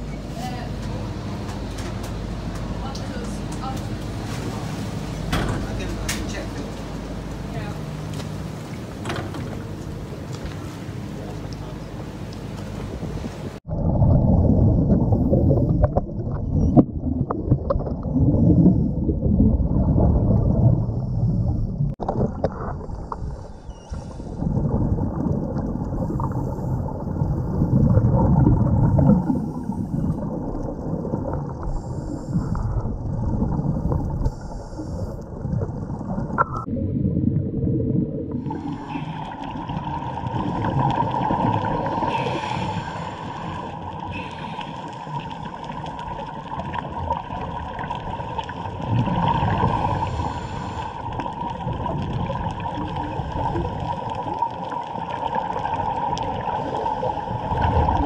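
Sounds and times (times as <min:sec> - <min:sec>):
underwater hum: 0:00.0 - 0:58.0
regulator bubbles gurgling underwater: 0:06.3 - 0:58.0.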